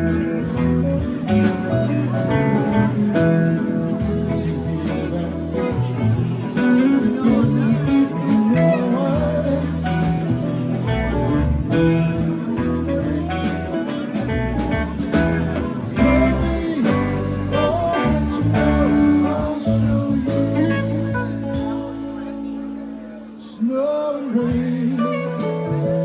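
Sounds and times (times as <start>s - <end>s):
bass: 0.0s - 26.0s
drums: 0.0s - 26.0s
guitar lines: 0.0s - 26.0s.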